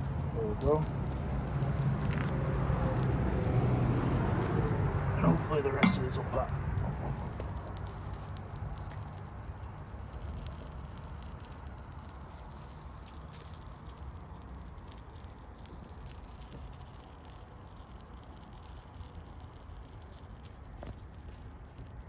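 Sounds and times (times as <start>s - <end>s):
circuit board crackling: 0.0s - 22.0s.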